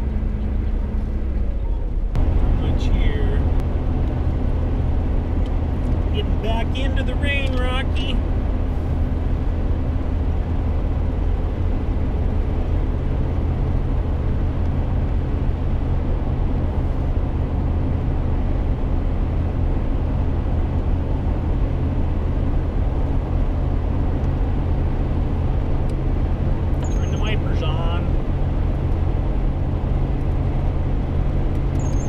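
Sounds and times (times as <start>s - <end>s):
engine and road drone: 0.0s - 32.0s.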